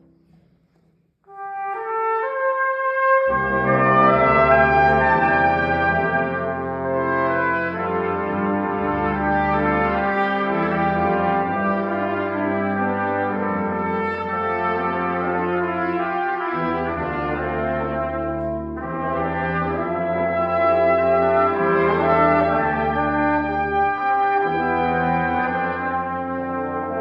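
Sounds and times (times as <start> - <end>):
brass quintet playing chords: 1.3 - 27.0.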